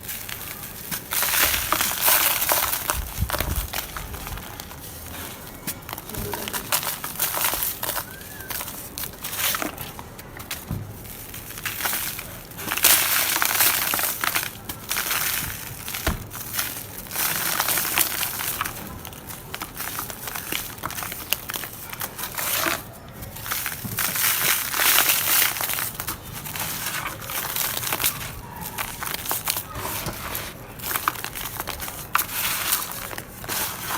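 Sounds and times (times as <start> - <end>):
dry dirt crushed by hand: 0.0 - 33.9.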